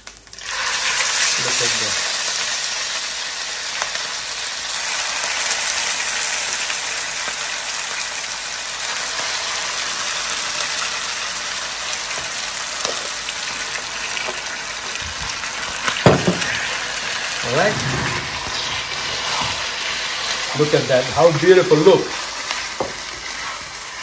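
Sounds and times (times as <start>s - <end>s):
beef sizzling in oil: 0.0s - 24.0s.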